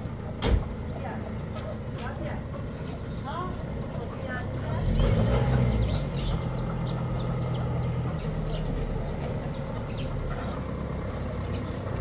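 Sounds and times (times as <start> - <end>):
low motor hum: 0.0 - 12.0
small birds chirping: 0.0 - 12.0.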